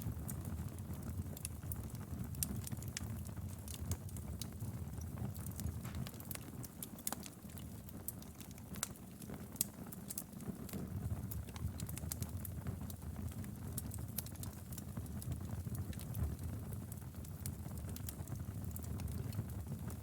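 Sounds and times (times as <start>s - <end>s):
wood fire crackling in fireplace: 0.0s - 20.0s.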